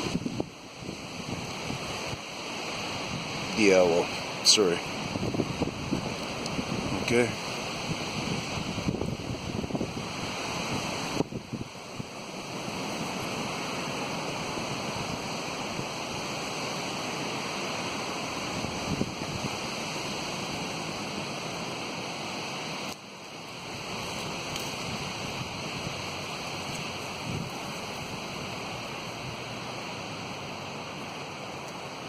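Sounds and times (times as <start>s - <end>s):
wind blowing through trees: 0.0s - 32.0s
wind buffeting microphone: 0.0s - 32.0s.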